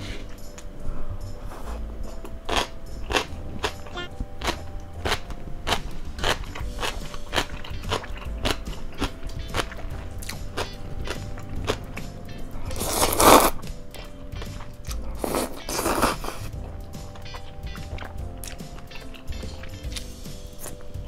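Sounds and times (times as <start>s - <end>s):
crunchy chewing: 1.3s - 21.0s.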